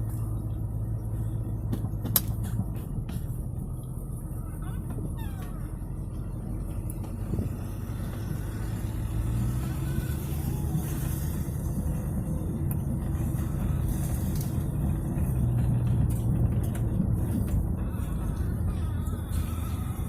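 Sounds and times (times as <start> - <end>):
car engine exhaust drone: 0.0 - 20.0.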